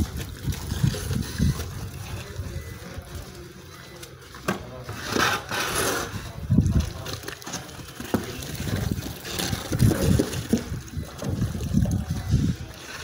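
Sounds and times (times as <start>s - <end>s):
wet mortar sloshing from wheelbarrow: 0.0s - 3.1s, 4.9s - 13.0s.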